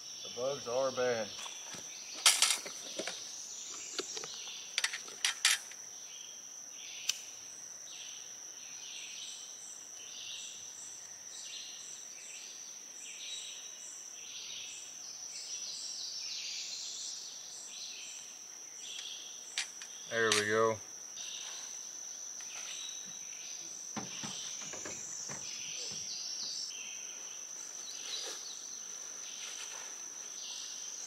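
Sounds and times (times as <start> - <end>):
insect drone and chirping: 0.0 - 31.0.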